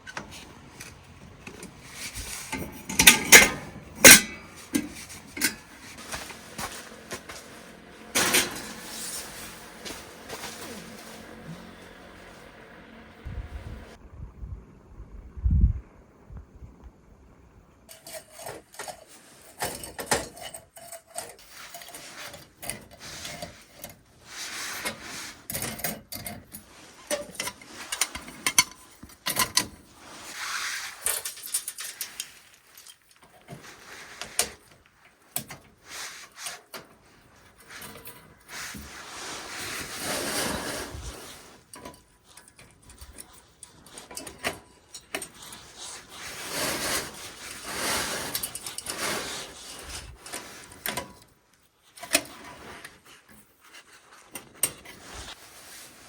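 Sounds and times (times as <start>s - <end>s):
rustling and scraping: 0.0s - 14.0s, 17.9s - 56.0s.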